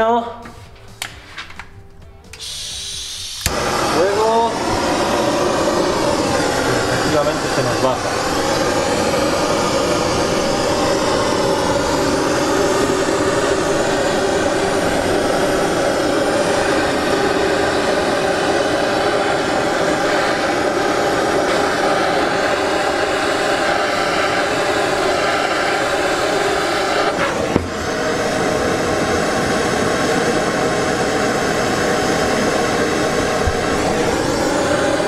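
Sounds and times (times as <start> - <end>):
blowtorch hissing: 2.4 - 35.0.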